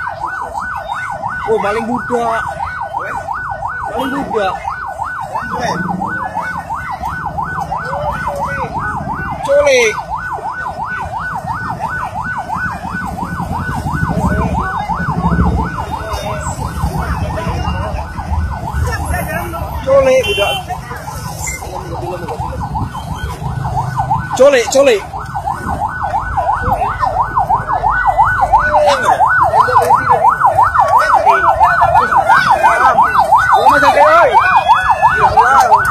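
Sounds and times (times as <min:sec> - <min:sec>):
siren yelping: 0:00.0 - 0:35.9.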